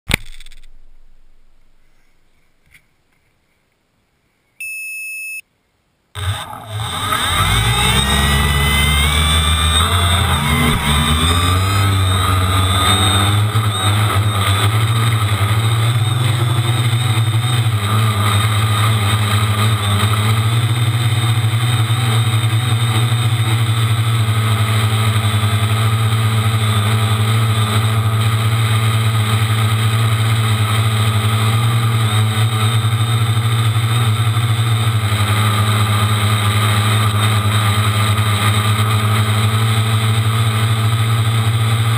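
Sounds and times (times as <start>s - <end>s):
quadcopter motors whining: 6.2s - 41.9s.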